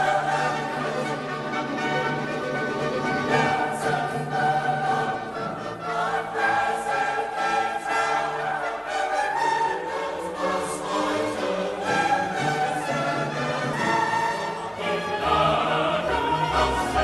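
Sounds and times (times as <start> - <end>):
choir singing sustained notes: 0.0 - 17.0
orchestra playing: 0.0 - 17.0.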